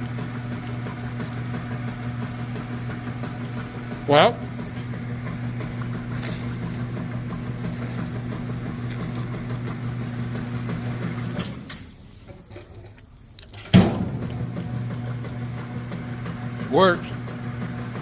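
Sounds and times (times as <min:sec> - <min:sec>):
washing machine motor hum: 0:00.0 - 0:18.0.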